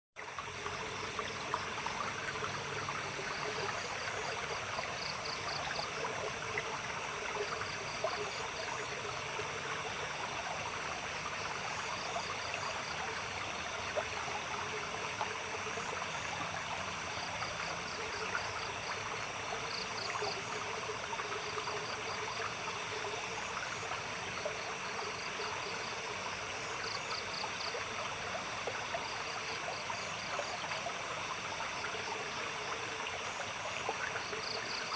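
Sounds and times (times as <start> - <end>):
crickets trilling: 0.2 - 34.9
insect chirps: 0.2 - 34.9
stream water trickling: 0.2 - 34.9.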